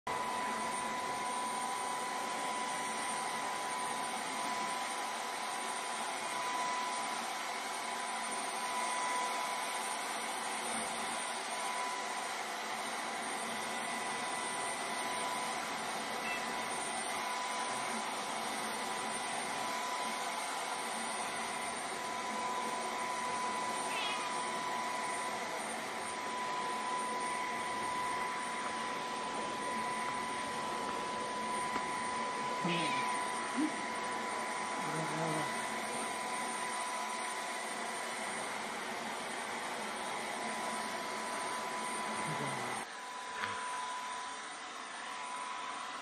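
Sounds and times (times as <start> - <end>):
vacuum cleaner running: 0.1 - 46.0.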